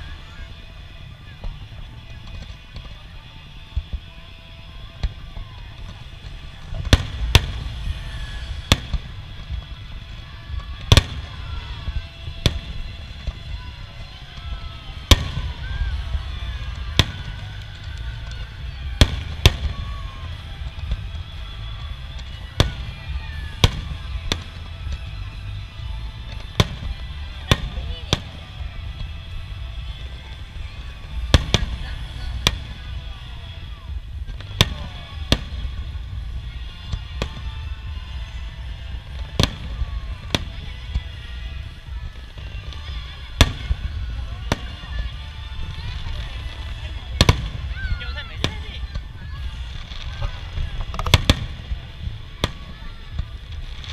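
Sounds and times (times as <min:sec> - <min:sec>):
fireworks bursting: 0:00.0 - 0:53.9
steady low rumble: 0:00.0 - 0:53.9.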